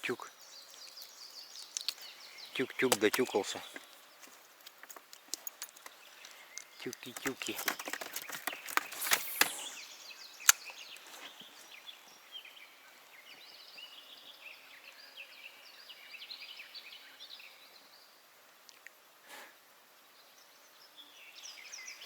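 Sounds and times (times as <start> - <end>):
faint songbird chirping: 0.0 - 22.0.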